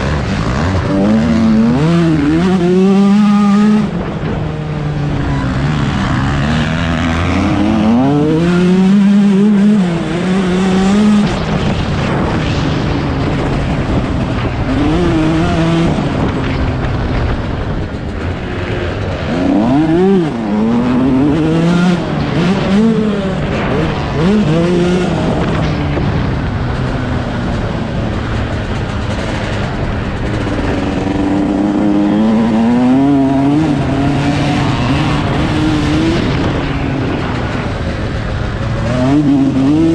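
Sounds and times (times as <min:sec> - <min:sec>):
motocross bike engine revving: 0:00.0 - 0:39.9
wind rush: 0:00.0 - 0:39.9.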